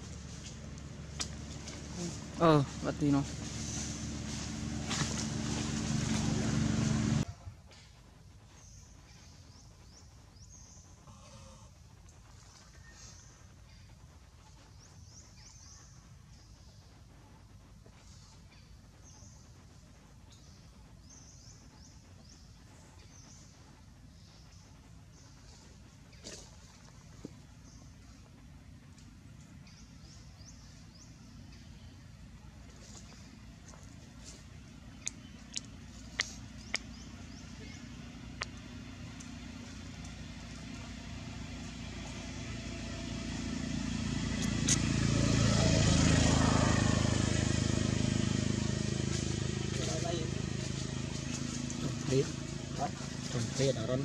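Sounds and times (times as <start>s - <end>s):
vehicle engine humming: 0.0s - 7.3s, 8.6s - 54.0s
faint birds chirping: 0.0s - 54.0s
low steady background rumble: 0.0s - 54.0s.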